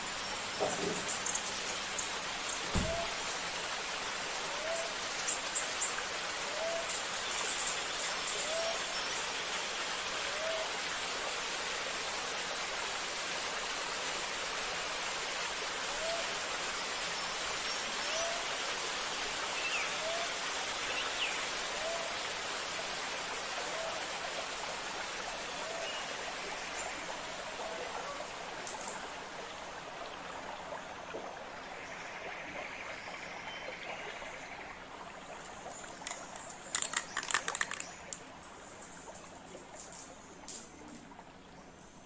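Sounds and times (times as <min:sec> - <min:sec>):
hissing outdoor background noise: 0:00.0 - 0:42.0.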